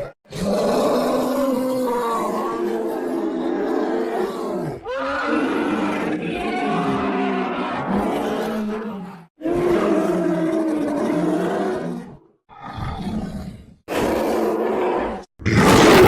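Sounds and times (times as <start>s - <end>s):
bear roaring: 0.0s - 16.0s.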